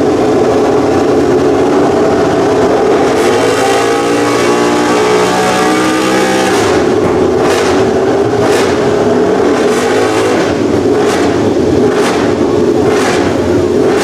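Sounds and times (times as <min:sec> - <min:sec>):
racing motorcycle engine: 0:00.0 - 0:14.0.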